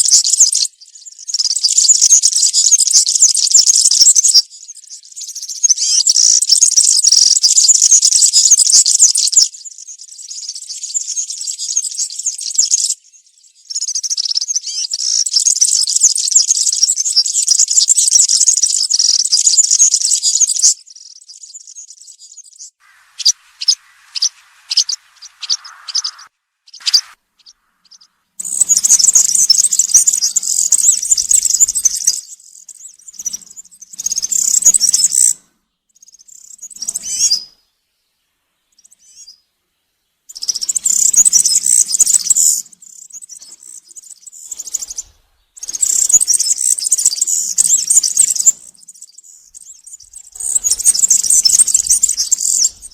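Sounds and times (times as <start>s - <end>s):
bird singing jingling song: 0.0s - 37.7s, 38.7s - 39.4s, 40.3s - 52.9s.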